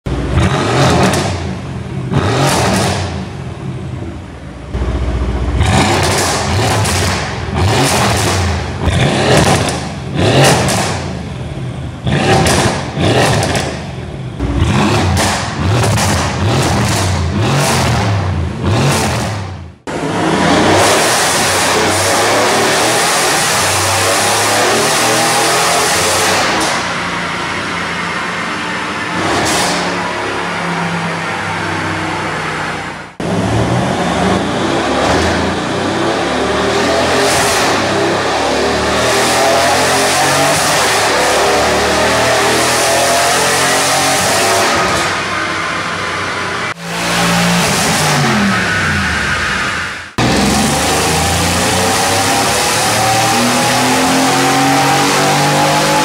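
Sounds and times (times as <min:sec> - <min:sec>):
car engine revving: 0:00.1 - 0:56.0.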